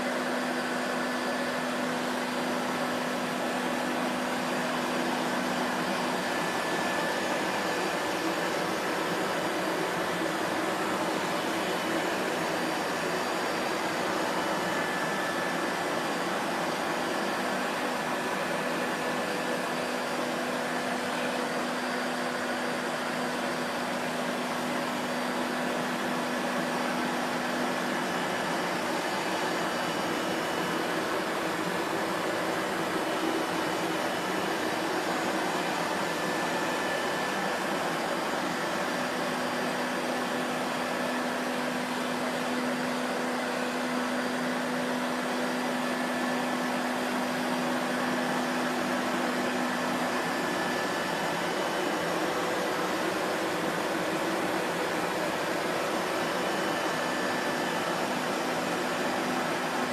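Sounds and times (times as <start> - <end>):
vacuum cleaner motor running: 0.0 - 59.9.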